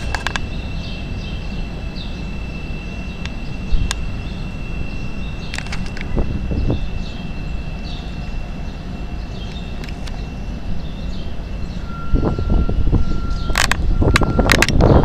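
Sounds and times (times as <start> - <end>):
elevated train rumbling: 0.0 - 15.0
lower steady tone: 0.0 - 15.0.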